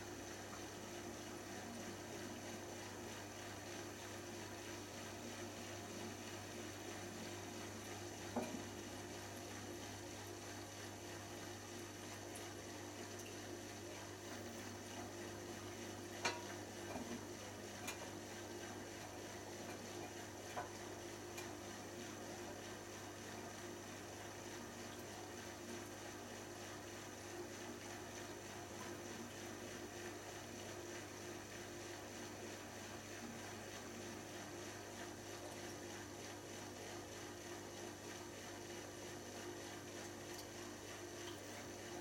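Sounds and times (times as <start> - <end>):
washing machine spinning: 0.0 - 42.0.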